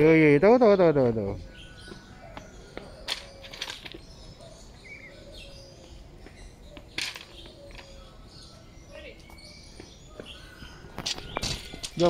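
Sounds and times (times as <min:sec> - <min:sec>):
bird chirps and calls: 0:00.0 - 0:12.0.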